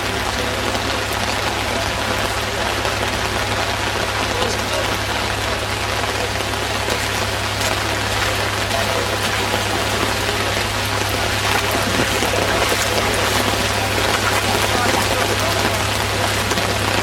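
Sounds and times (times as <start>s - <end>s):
floodwater rushing: 0.0s - 17.0s
heavy rain: 0.0s - 17.0s.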